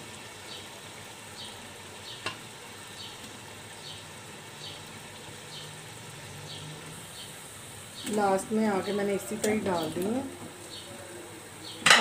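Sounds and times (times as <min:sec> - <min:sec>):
sauce sizzling in a pot: 0:00.0 - 0:12.0.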